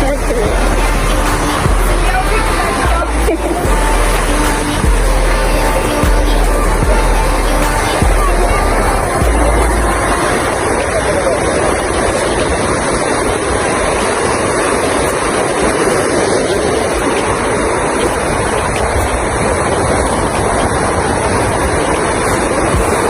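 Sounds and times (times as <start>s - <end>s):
surf rushing: 0.0s - 23.0s
wind buffeting microphone: 0.0s - 23.0s.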